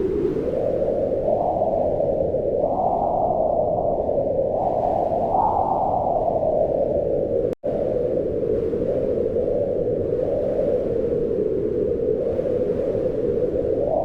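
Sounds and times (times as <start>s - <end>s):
wind blowing in gusts: 0.0s - 14.0s.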